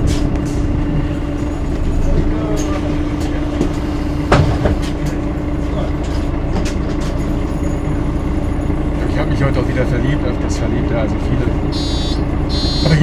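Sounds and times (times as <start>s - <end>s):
bus interior rumble: 0.0s - 13.0s.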